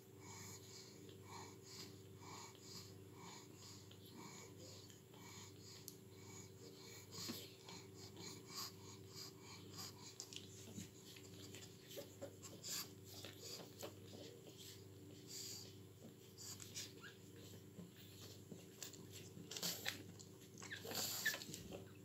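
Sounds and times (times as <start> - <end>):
puppies suckling: 0.1 - 22.0.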